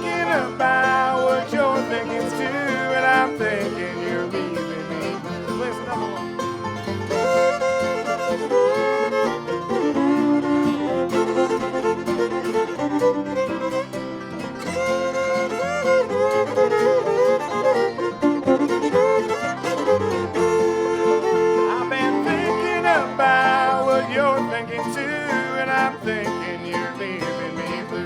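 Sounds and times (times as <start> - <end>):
bluegrass band playing: 0.0 - 28.0
fiddle melody: 0.0 - 28.0.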